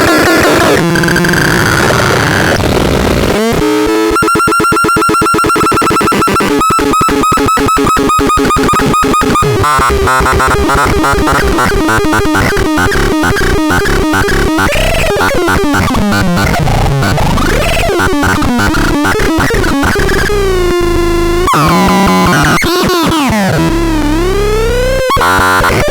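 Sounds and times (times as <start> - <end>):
harsh glitchy synthesizer tones: 0.0 - 25.9.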